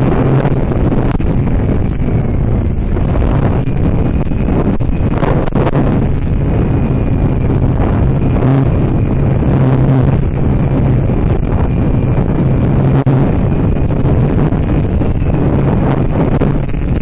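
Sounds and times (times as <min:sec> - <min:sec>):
low motor hum: 0:00.0 - 0:17.0
wind buffeting microphone: 0:00.0 - 0:17.0.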